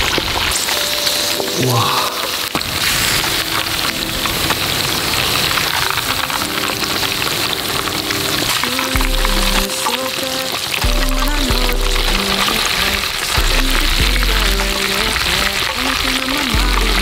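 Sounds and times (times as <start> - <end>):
pork deep-frying in oil: 0.0 - 1.6, 2.3 - 17.0
background music: 0.4 - 17.0.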